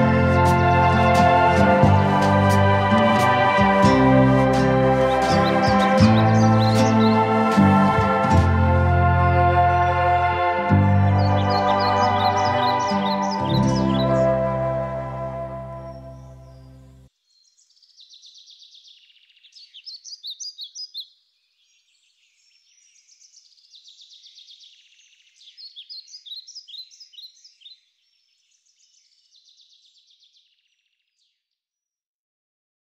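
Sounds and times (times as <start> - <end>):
songbirds chirping and trilling: 0.0 - 31.8.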